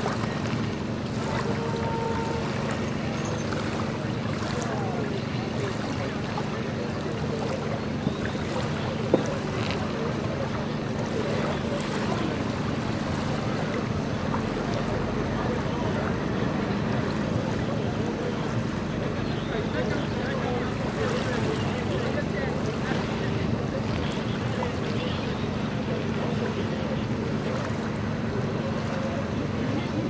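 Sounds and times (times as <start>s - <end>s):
small engine droning: 0.0s - 30.0s
water washing: 0.0s - 30.0s.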